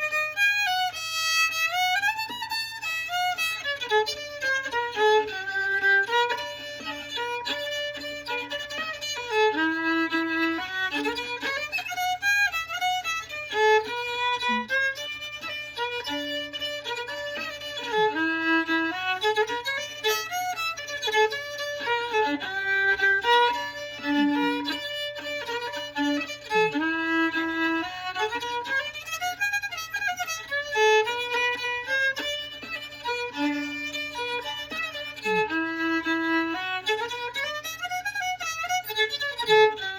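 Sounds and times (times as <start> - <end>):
solo fiddle playing a quick tune: 0.0 - 39.9.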